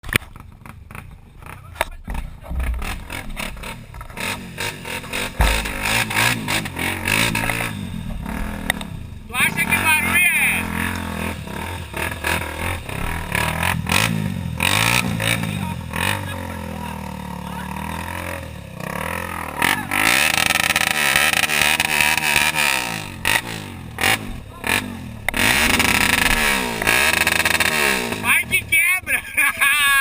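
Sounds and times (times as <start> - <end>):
motorcycle engine revving: 0.0 - 28.8.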